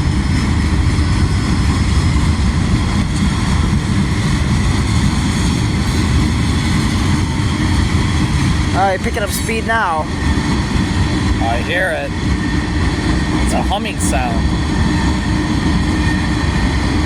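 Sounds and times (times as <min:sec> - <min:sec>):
diesel locomotive rumble: 0:00.0 - 0:17.0
freight train rolling past: 0:00.0 - 0:17.0
train wheels on rails: 0:00.0 - 0:17.0.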